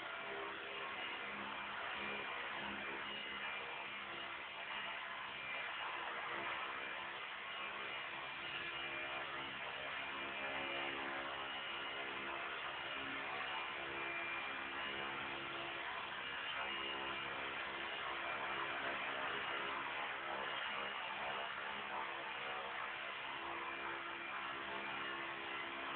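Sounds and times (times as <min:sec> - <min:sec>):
rc helicopter motor and rotors whirring: 0:00.0 - 0:25.9.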